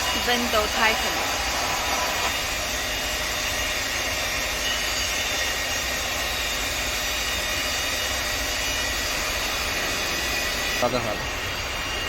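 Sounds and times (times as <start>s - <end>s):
faint high whines: 0.0s - 12.0s
workshop machinery hum and hiss: 0.0s - 12.0s.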